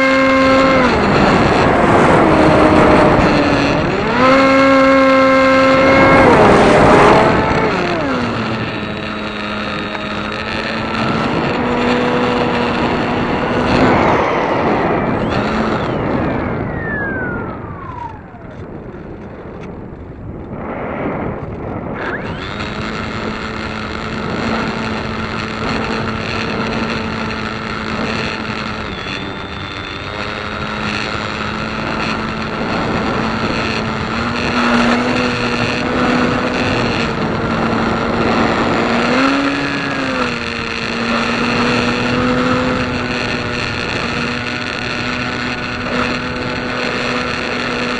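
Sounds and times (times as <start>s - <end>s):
small piston engine running: 0.0s - 14.0s, 15.0s - 18.6s, 22.0s - 47.9s
whine falling in pitch: 0.0s - 47.9s
wind buffeting microphone: 0.0s - 47.9s.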